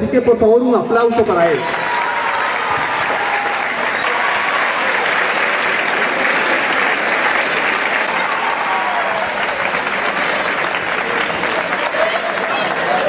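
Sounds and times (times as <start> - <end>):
audience applause: 1.4 - 13.0.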